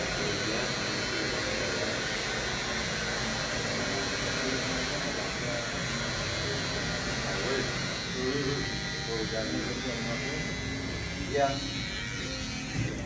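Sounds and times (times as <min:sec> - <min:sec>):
electric blower motor whirring: 0:00.0 - 0:13.0.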